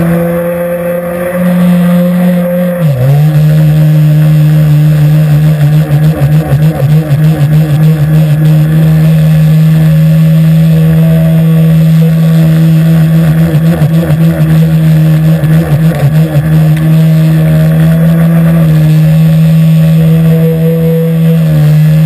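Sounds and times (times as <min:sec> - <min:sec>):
model boat engine high drone: 0:00.0 - 0:22.0.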